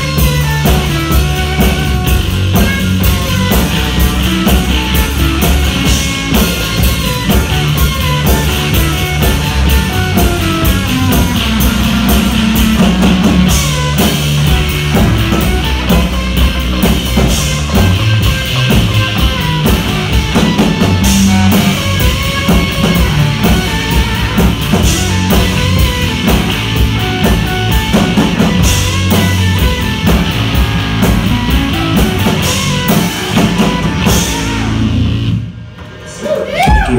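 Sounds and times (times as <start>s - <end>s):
live rock band playing: 0.0s - 36.9s.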